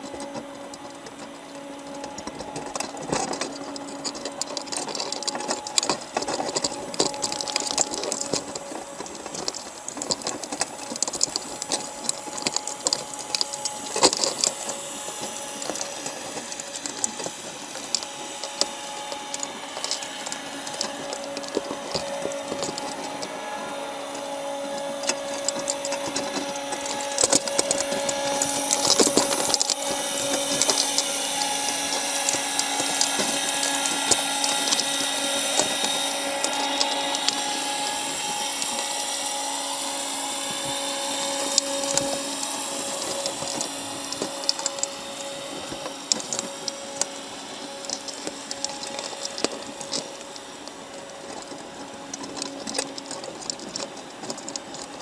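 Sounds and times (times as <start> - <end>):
machine hum with whine: 0.0 - 55.0
sharp clicks and rattles: 0.0 - 55.0.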